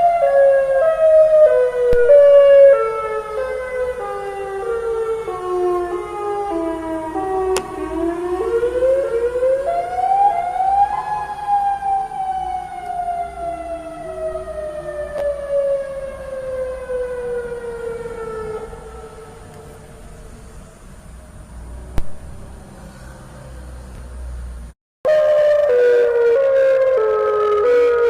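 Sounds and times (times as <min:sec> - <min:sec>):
warning siren winding up and down: 0:00.0 - 0:20.8, 0:25.1 - 0:28.0.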